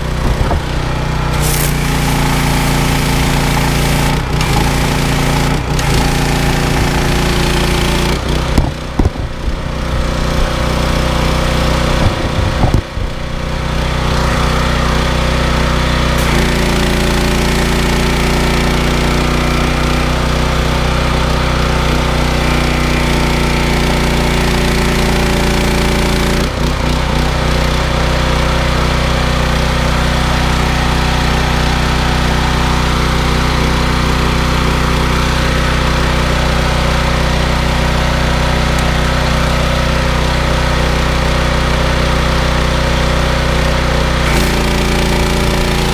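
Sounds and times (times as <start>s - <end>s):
pressure washer engine running: 0.0s - 45.9s.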